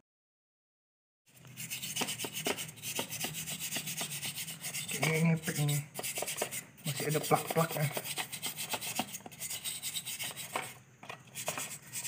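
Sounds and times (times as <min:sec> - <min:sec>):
toothbrush scrubbing metal fins: 0:01.4 - 0:12.0.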